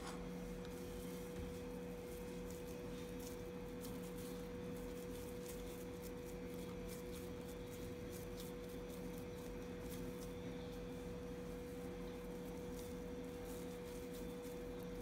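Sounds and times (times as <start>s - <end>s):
electrical hum: 0.0s - 15.0s
hands squishing food mixture: 0.4s - 15.0s.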